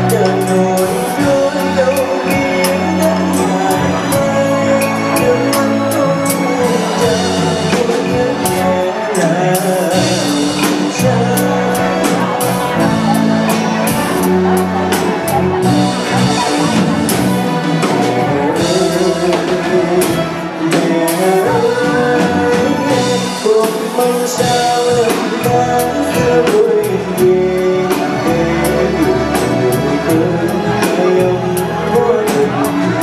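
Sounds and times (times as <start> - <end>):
live band playing: 0.0 - 33.0.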